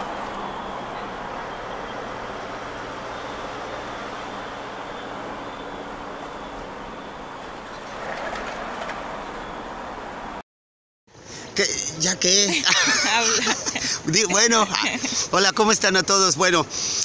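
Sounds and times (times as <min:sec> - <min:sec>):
engine and road noise: 0:00.0 - 0:10.4, 0:11.1 - 0:17.0.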